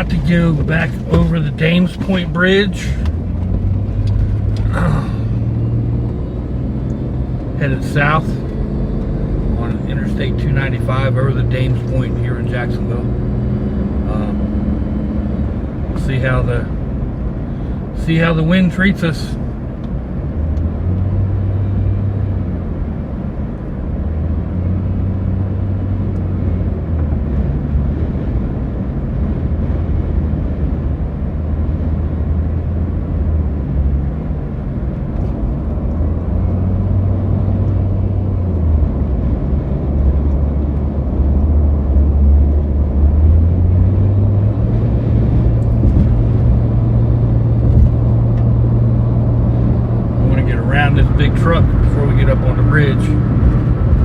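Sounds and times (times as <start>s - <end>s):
low engine drone: 0.0s - 54.0s
road and wind rush: 0.0s - 54.0s.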